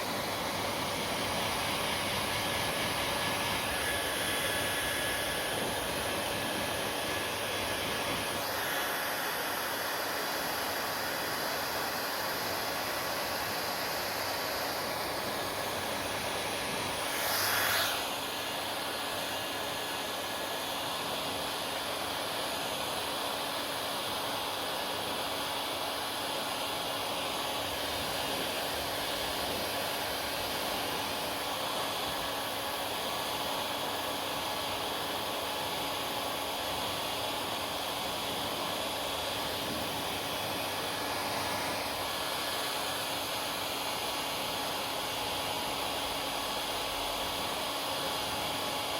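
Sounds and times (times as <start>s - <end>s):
hair dryer running: 0.0s - 48.9s.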